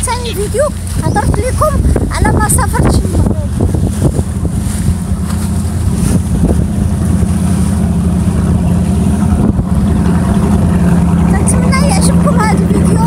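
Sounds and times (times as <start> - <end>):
motorboat engine droning: 0.0 - 13.0
wind on microphone: 0.0 - 13.0.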